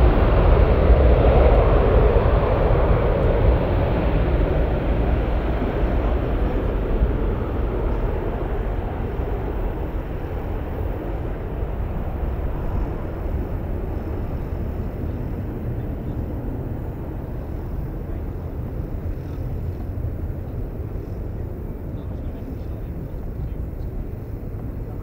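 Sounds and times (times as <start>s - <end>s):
jet engines rumbling at takeoff: 0.0s - 25.0s.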